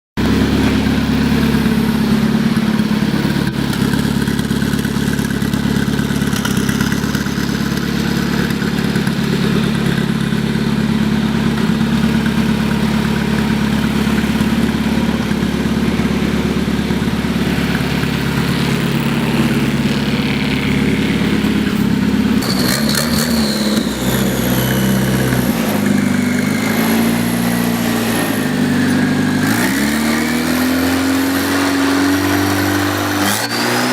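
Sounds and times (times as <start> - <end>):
tractor engine revving: 0.0 - 33.9
tractor engine running: 0.2 - 33.9.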